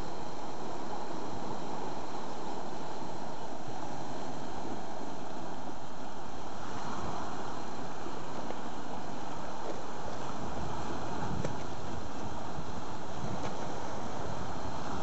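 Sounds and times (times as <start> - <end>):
surf breaking on rocky shore: 0.0 - 15.0
wind buffeting microphone: 0.0 - 15.0.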